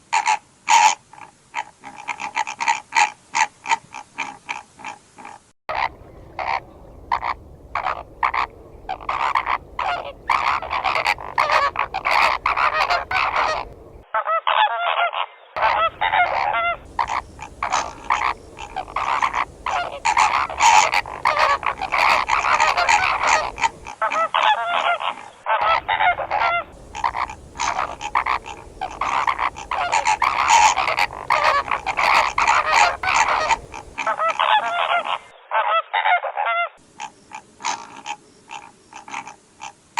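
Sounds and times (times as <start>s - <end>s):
flamingos honking: 0.1s - 14.8s, 15.6s - 36.2s.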